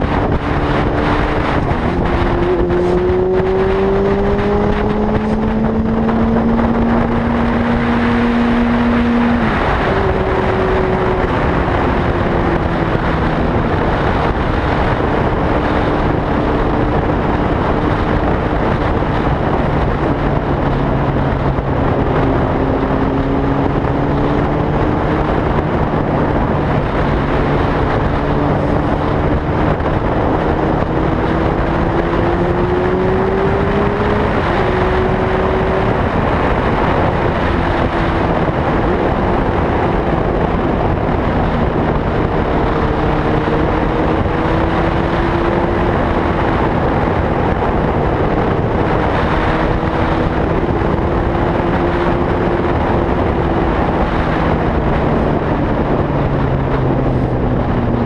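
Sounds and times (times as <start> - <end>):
heavy rushing noise: 0.0 - 58.0.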